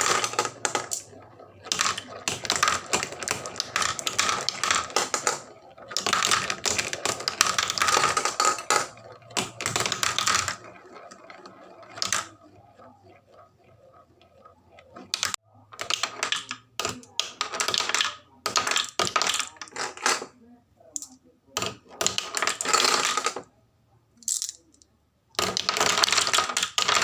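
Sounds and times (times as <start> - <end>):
marbles rolling down wooden run: 0.0 - 20.3, 21.0 - 23.5, 25.4 - 27.0.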